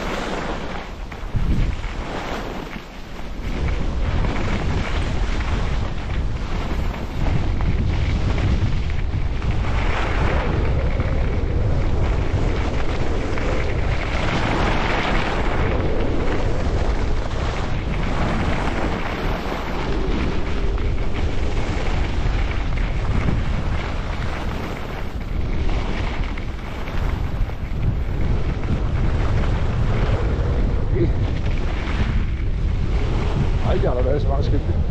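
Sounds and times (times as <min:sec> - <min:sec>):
skis sliding on snow: 0:00.0 - 0:34.9
wind buffeting microphone: 0:00.0 - 0:34.9.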